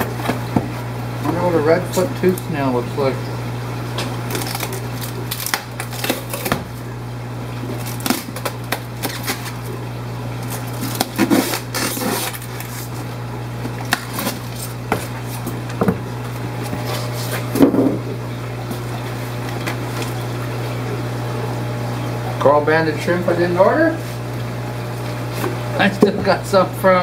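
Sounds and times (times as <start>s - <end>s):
low equipment hum: 0.0s - 27.0s.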